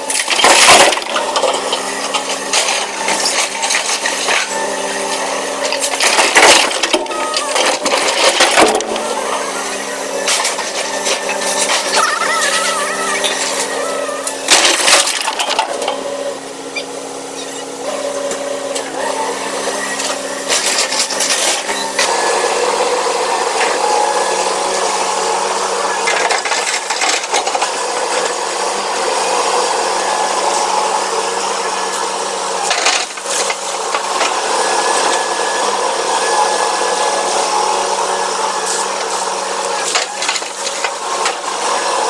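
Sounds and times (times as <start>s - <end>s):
excavator engine running: 0.0s - 42.0s.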